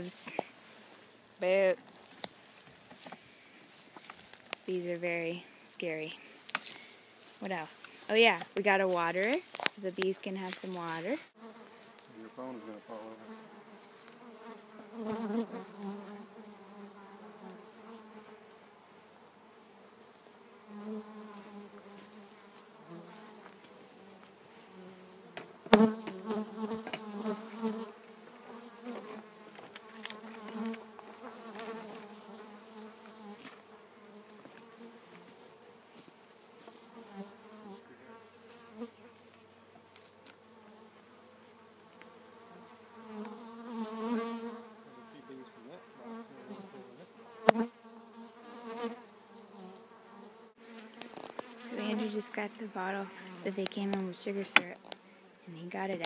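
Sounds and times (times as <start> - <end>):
bees buzzing: 3.0 - 56.0.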